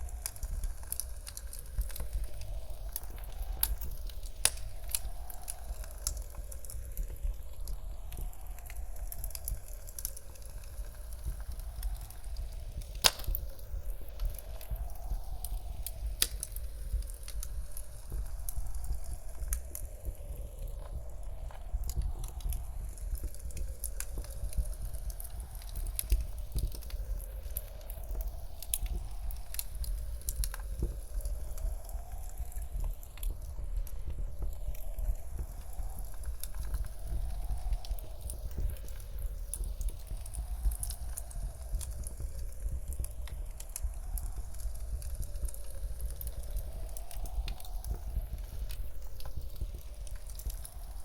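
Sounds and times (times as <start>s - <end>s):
low rumble of wind: 0.0s - 51.0s
wood fire crackling and popping: 0.0s - 51.0s.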